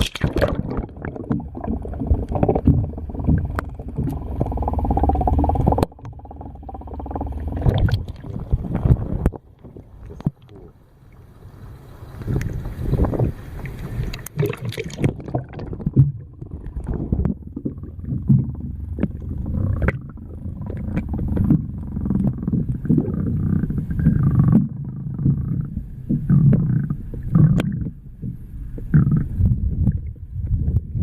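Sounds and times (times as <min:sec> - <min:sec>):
small underwater clicks and knocks: 0:00.0 - 0:10.8, 0:12.2 - 0:23.1, 0:23.9 - 0:31.0
underwater sloshing and gurgling: 0:00.0 - 0:31.0.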